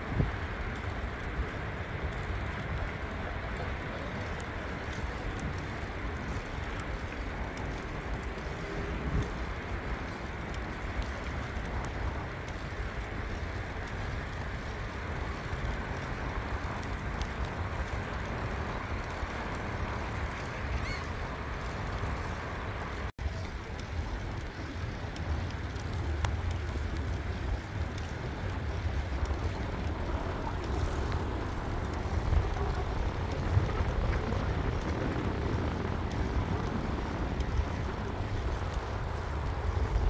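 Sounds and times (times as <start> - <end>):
bicycle tyre rumble on pavement: 0.0 - 40.0
wind buffeting microphone: 0.0 - 40.0.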